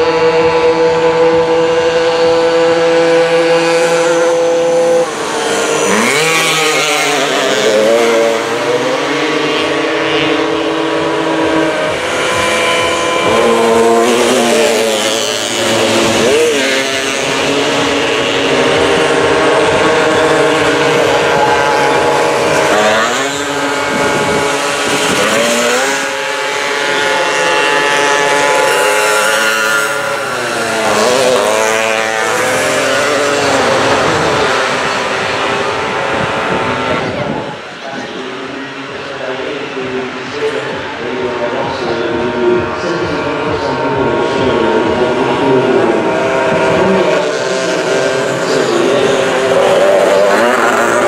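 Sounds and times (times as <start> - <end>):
mopeds racing past: 0.0 - 38.1, 40.2 - 51.0.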